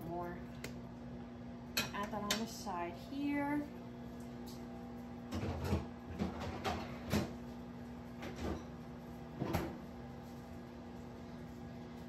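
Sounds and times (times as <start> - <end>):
appliance hum: 0.0 - 12.0.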